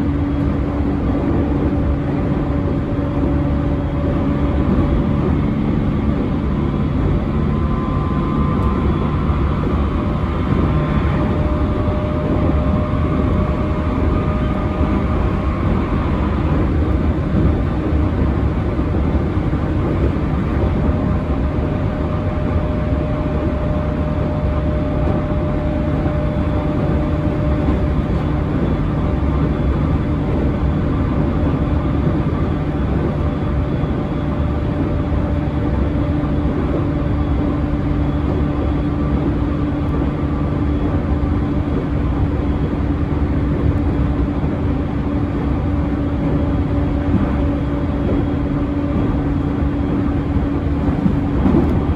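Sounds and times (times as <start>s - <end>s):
train motors humming: 0.0s - 51.9s
train wheels rumbling on rail: 0.0s - 51.9s.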